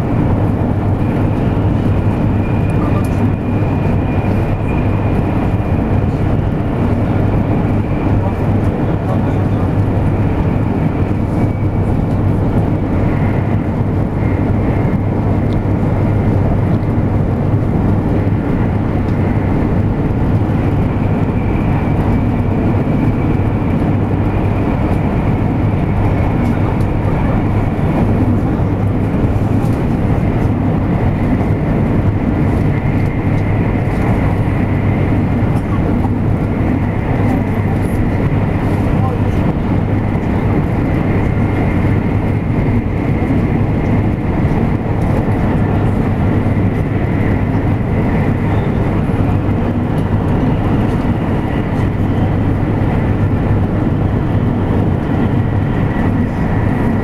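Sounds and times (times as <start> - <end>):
deep rumble of train wheels: 0.0 - 57.0.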